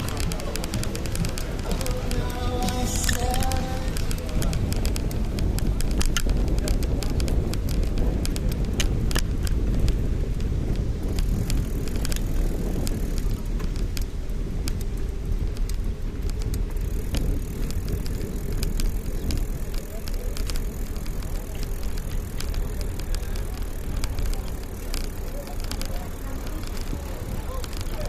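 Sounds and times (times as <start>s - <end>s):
bicycle clicks and rattles: 0.0s - 28.0s
wind and tyres rumbling: 0.0s - 28.0s.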